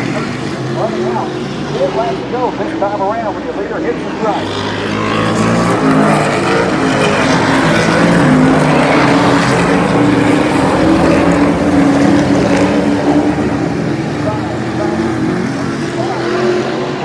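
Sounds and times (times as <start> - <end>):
racing truck engines droning: 0.0 - 17.0.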